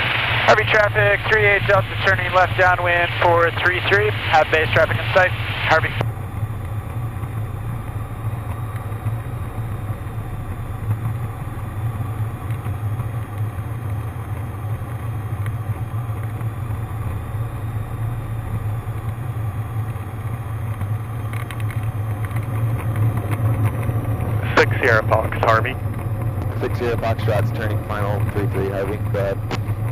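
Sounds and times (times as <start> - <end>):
airplane engine and propeller droning: 0.0 - 29.9.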